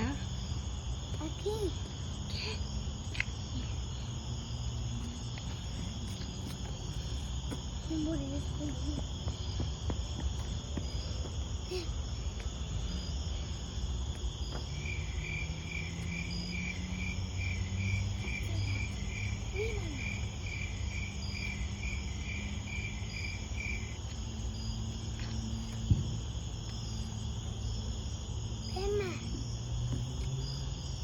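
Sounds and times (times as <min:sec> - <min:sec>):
crickets and insects chirping: 0:00.0 - 0:31.0.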